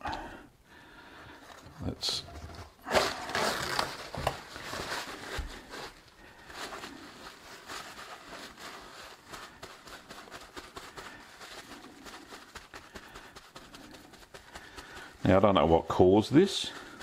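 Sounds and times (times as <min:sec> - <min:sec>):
hands rustling and tapping: 0:02.9 - 0:17.0.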